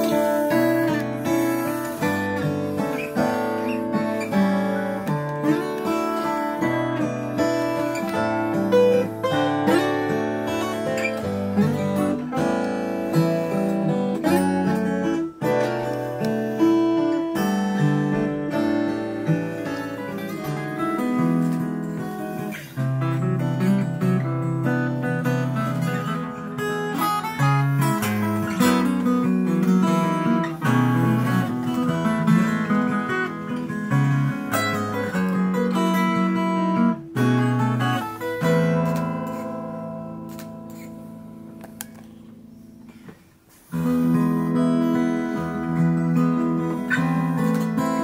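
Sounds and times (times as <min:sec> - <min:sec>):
acoustic guitar strumming chords: 0:00.0 - 0:48.0.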